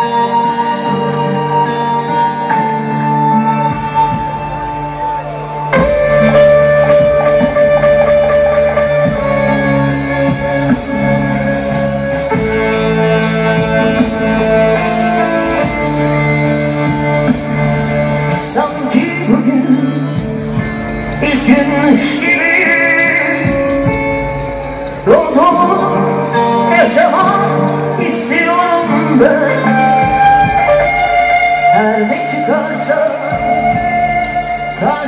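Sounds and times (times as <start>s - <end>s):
live band music over loudspeakers: 0.0s - 35.0s.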